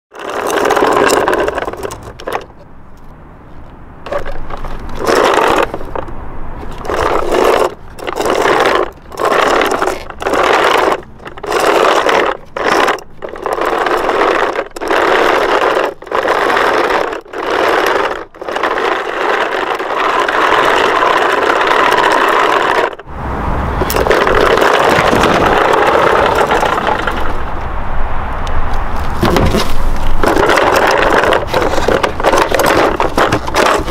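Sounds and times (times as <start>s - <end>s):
toy wheels scraping on concrete: 0.1s - 23.1s, 23.8s - 27.7s, 28.5s - 33.9s.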